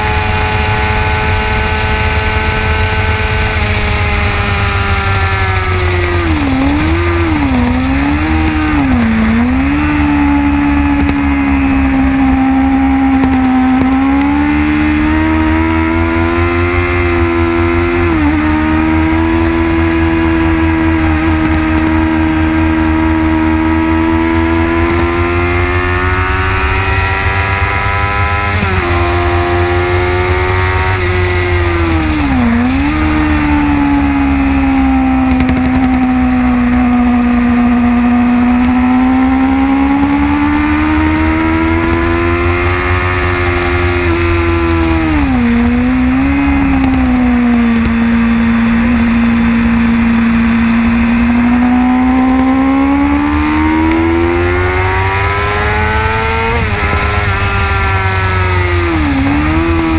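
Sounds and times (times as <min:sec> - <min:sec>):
motorcycle engine under load: 0:00.0 - 0:59.9
wind on microphone: 0:00.0 - 0:59.9.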